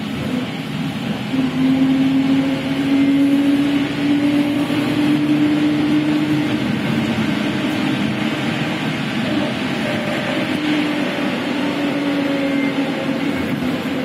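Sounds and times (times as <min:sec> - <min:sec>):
bus running noise: 0:00.0 - 0:14.0.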